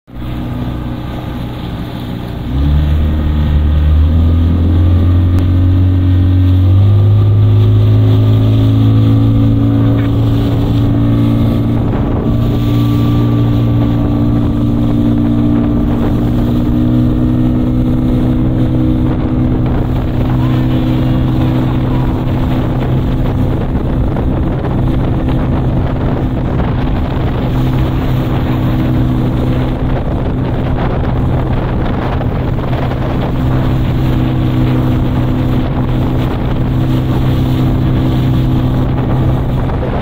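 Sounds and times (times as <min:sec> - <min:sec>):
outboard motor running: 0:00.1 - 0:40.0
wind buffeting microphone: 0:00.1 - 0:40.0.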